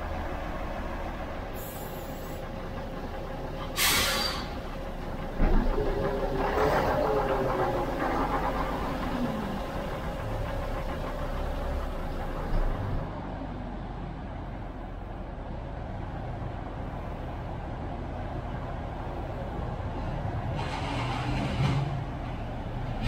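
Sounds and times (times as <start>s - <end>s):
bus diesel engine running: 0.0s - 23.0s
engine whine: 0.0s - 23.0s.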